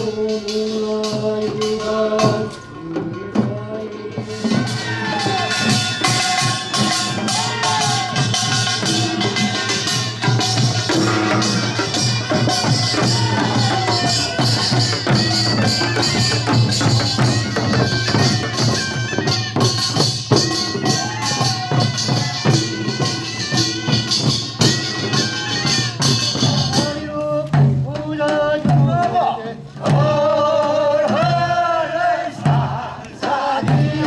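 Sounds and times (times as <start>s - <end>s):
metallic percussion band playing: 0.0s - 34.0s.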